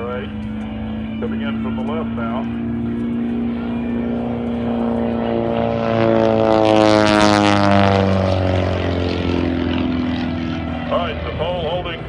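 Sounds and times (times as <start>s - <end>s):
propeller plane passing: 0.0s - 12.0s.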